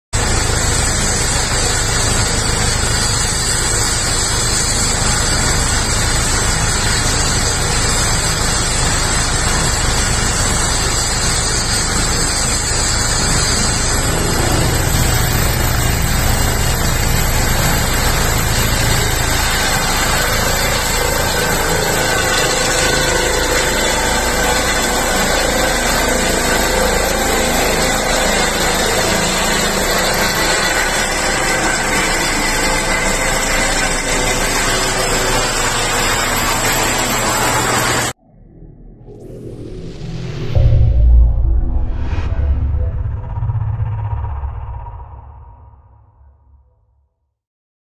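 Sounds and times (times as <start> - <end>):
helicopter rotor and turbines: 0.2 - 45.9
high turbine whine: 0.2 - 46.5.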